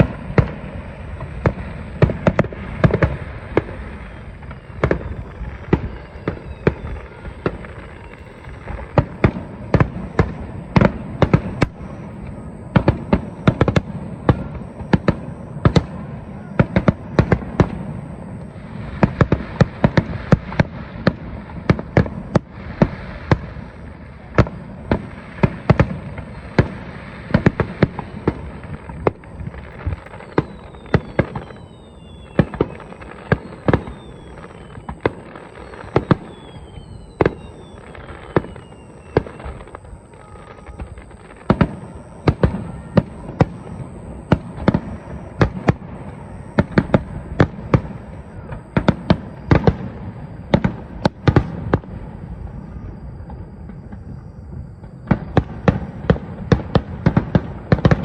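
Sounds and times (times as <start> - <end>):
falling whistling fireworks: 0.0 - 58.0
fireworks bangs: 0.0 - 58.0.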